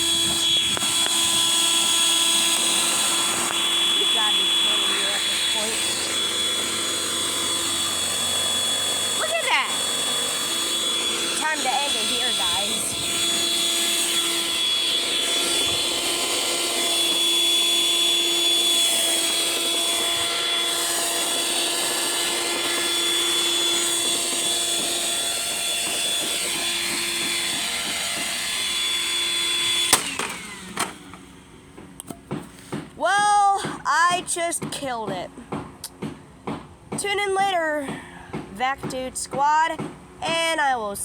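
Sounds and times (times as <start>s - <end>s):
vacuum cleaner motor whining: 0.0s - 34.1s.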